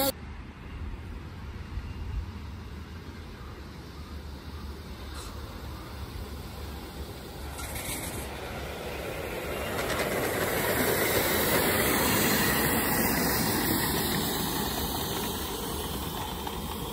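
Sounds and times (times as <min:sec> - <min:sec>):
model steam train passing: 0:00.0 - 0:16.9.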